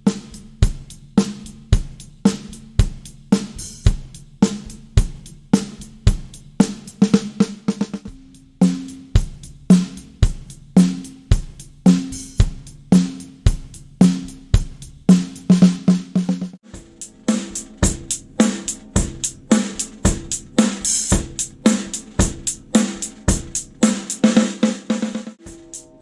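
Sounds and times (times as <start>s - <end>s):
drum kit groove: 0.0s - 26.0s.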